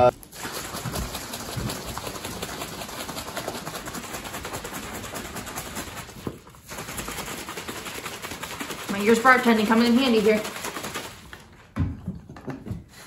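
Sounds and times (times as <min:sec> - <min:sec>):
liquid bottle shaken rattling: 0:00.1 - 0:11.8.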